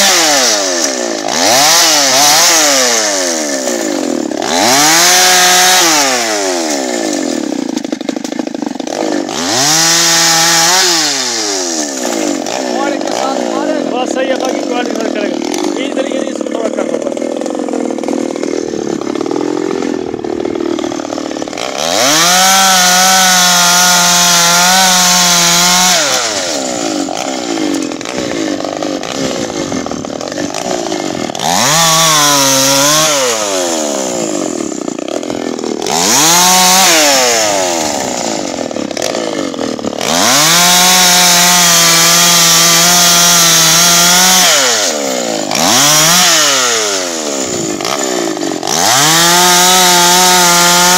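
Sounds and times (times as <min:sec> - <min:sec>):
chainsaw cutting wood: 0:00.0 - 0:50.9.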